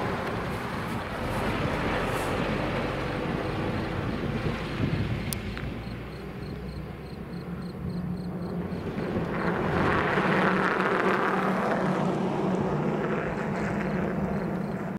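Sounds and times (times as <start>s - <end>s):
car engine and tyre noise: 0.0s - 14.9s
low engine hum: 0.0s - 14.9s.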